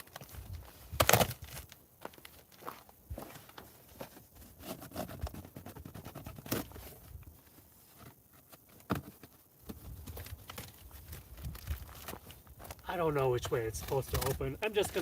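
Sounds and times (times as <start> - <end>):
packing tape and cardboard handled: 0.0 - 1.8, 3.4 - 15.0.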